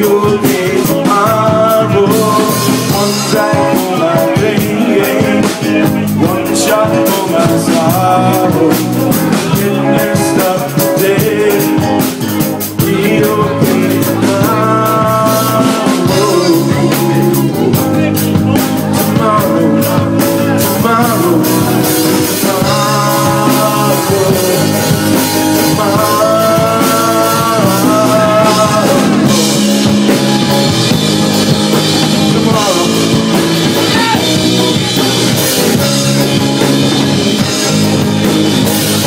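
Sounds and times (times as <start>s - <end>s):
blues-rock band playing: 0.0s - 39.0s
electric guitar lead melody: 0.0s - 39.0s.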